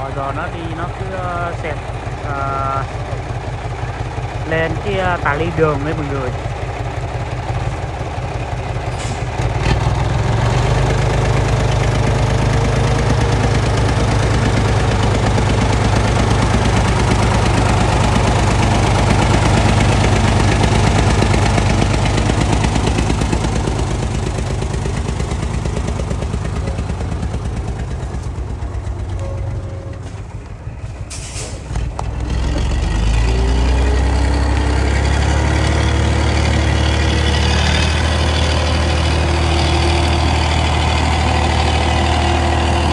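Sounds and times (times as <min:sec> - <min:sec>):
truck engine running: 0:00.0 - 0:42.9.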